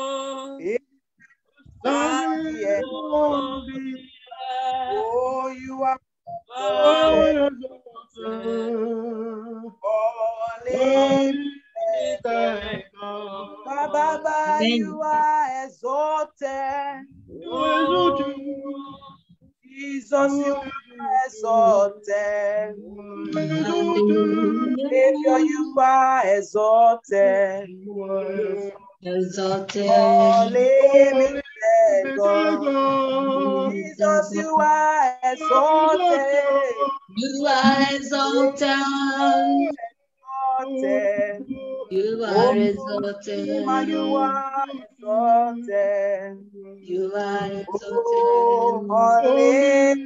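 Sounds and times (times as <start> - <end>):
worship singing over video call: 0.0 - 50.0.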